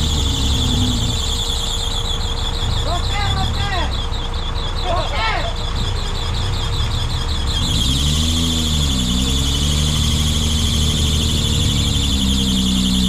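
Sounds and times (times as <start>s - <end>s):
off-road vehicle engine under load: 0.0s - 13.0s.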